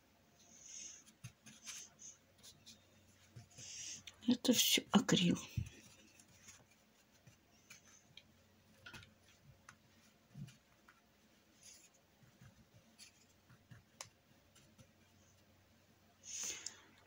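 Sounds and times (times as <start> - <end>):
brush tapping and scraping paint: 0.4 - 15.7.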